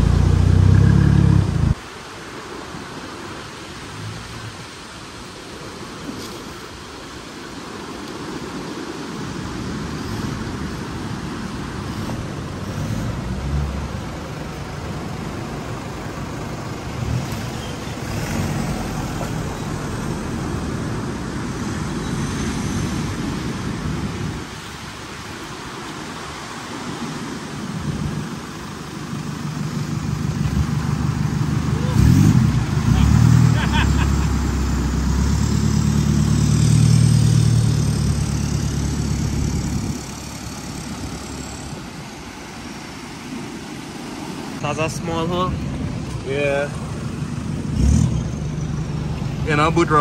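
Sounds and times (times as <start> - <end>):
pickup truck engines crawling: 0.0 - 1.8, 9.3 - 43.6, 44.2 - 50.0.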